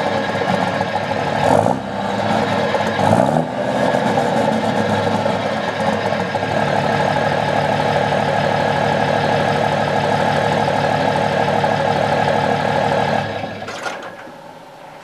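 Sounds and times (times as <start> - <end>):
diesel truck idling: 0.0 - 15.0.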